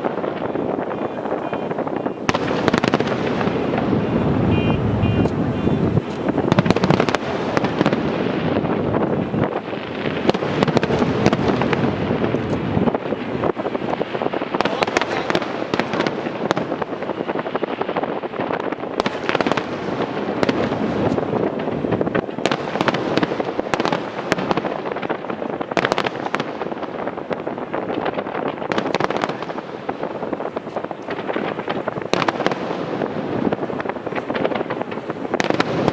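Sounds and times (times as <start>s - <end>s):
fireworks crackling and banging: 0.0s - 35.9s.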